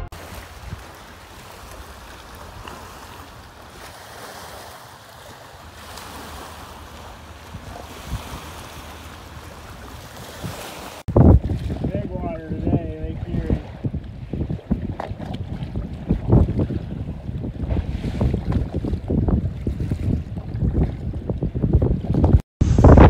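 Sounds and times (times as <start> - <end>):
small waves lapping on shore: 0.0 - 21.5
wind rumbling on microphone: 0.0 - 23.0.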